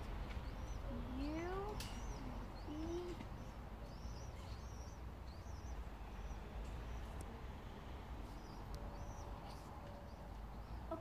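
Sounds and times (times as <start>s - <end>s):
low outdoor rumble: 0.0s - 11.0s
songbird chirping: 0.0s - 11.0s.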